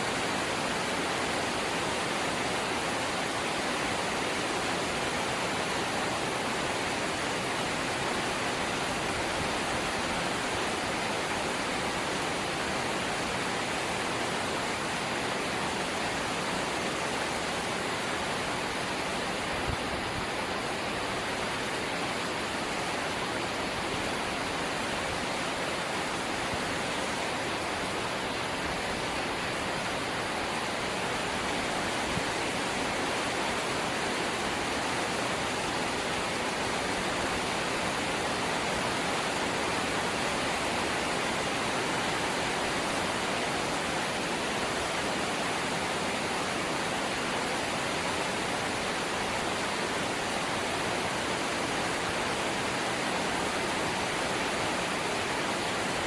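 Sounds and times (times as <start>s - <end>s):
light rain hissing: 0.0s - 56.0s.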